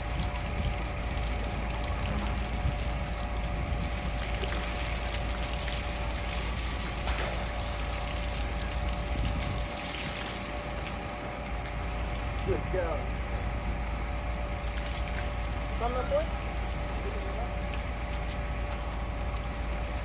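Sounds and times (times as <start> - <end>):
low hum: 0.0 - 20.0
water trickling: 0.0 - 20.0.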